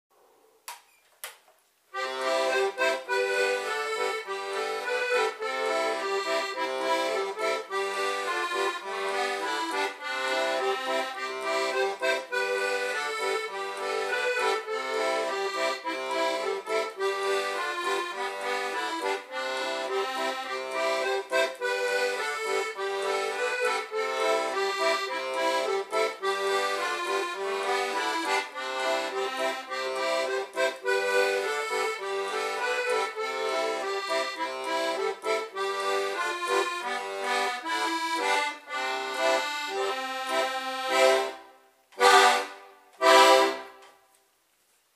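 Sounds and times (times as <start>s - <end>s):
button accordion playing: 2.0s - 43.9s.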